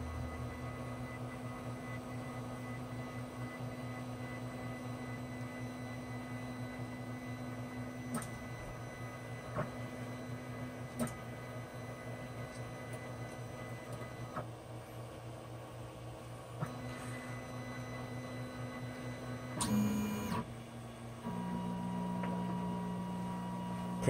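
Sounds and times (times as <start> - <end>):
printer humming: 0.0 - 24.0.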